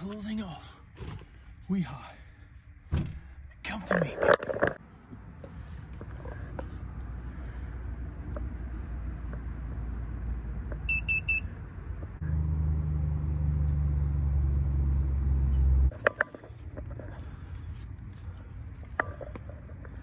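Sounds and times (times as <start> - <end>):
low outdoor rumble: 0.0 - 20.0
steady low hum: 0.0 - 20.0.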